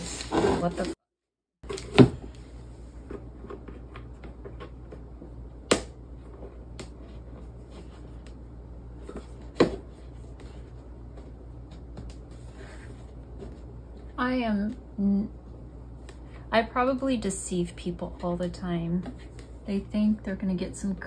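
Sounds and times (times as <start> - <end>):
low steady hum: 1.6 - 21.0.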